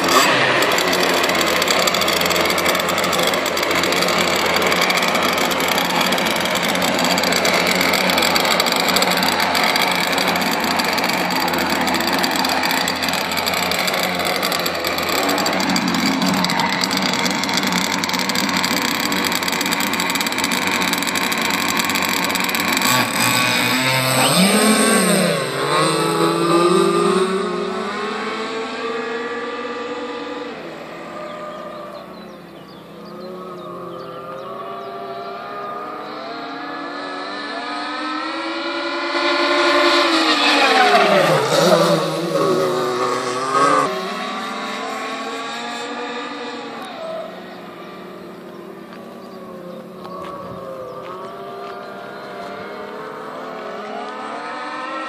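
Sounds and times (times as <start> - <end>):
model speedboat engine passing: 0.0 - 55.0.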